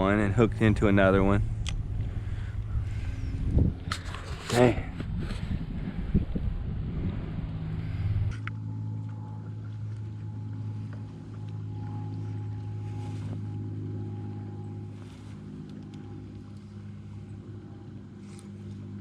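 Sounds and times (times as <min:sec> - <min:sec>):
faint high whine: 0:00.0 - 0:19.0
low mechanical hum: 0:00.0 - 0:19.0.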